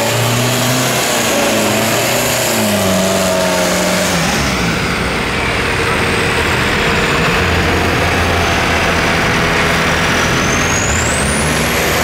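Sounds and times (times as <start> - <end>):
off-road vehicle engines running: 0.0 - 12.0.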